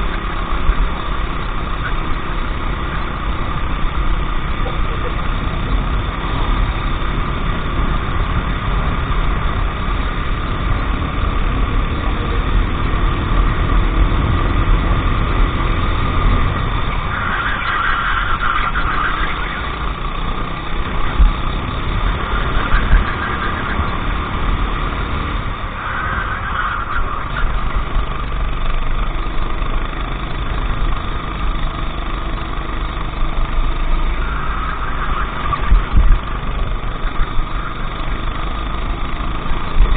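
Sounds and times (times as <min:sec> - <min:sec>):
heavy low rumble: 0:00.0 - 0:39.9
kart engine running: 0:00.0 - 0:39.9.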